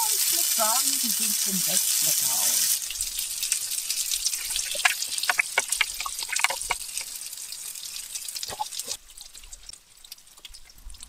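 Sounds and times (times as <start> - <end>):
fish frying in oil: 0.0 - 11.0
oil crackling and popping: 0.0 - 11.0.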